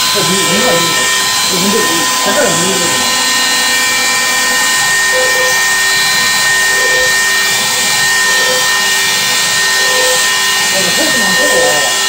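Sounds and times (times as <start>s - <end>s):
router whining at speed: 0.0s - 12.0s.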